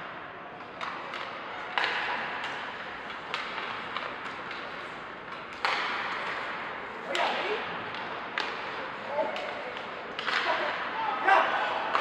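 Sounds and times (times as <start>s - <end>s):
hockey sticks and puck knocking: 0.6s - 10.8s.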